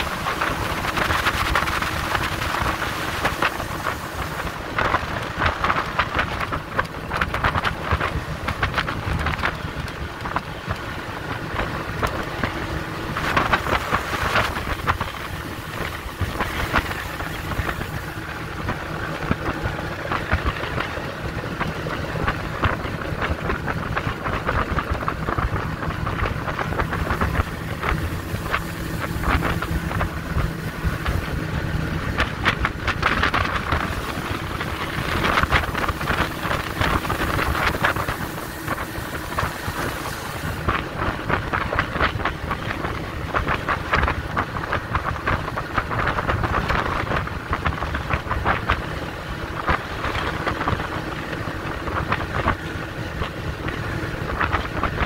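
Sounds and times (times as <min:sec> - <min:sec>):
outboard engine droning: 0:00.0 - 0:55.0
rushing water: 0:00.0 - 0:55.0
wind buffeting microphone: 0:00.0 - 0:55.0.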